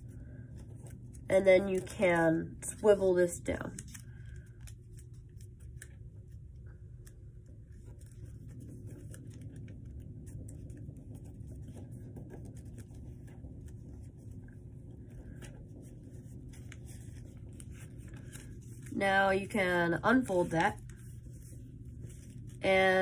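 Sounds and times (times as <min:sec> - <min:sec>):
low steady hum: 0:00.0 - 0:23.0
paper rustling and creasing: 0:00.0 - 0:23.0.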